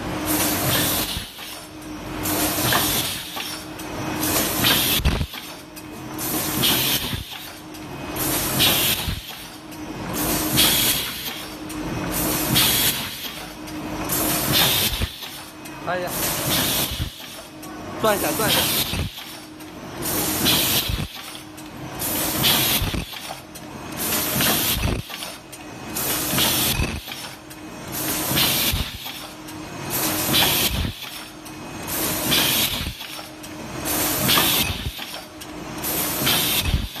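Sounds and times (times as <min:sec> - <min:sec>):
constant mechanical hum: 0:00.0 - 0:37.0.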